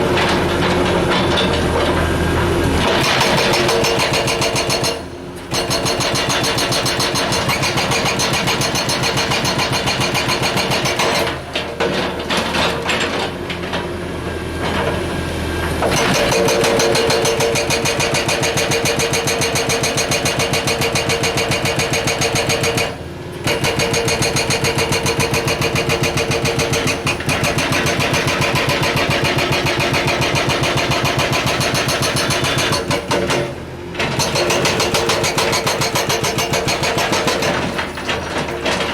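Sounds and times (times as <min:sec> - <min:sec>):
hydraulic hammer breaking rock: 0:02.8 - 0:13.3, 0:15.8 - 0:38.9.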